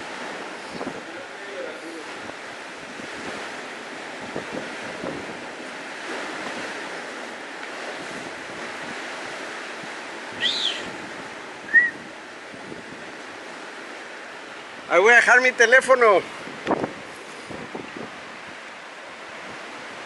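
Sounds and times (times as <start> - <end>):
wind buffeting microphone: 0.0 - 15.1, 15.8 - 20.0
surf washing against rocks: 0.0 - 20.0.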